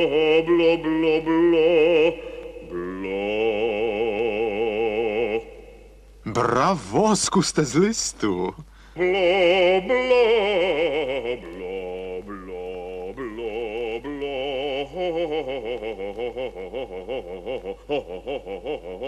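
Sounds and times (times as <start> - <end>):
cartoon male opera-style singing: 0.0 - 19.0.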